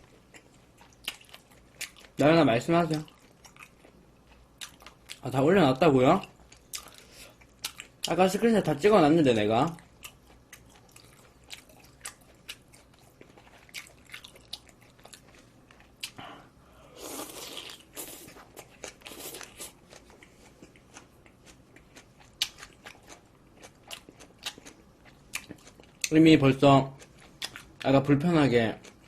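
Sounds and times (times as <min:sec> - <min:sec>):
close chewing and crunching: 0:00.0 - 0:16.3, 0:17.0 - 0:29.0.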